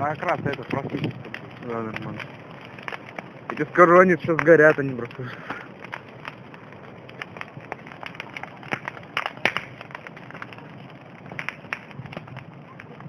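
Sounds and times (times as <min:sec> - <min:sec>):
bonfire crackling and popping: 0:00.0 - 0:13.0
fire hissing: 0:00.0 - 0:13.0.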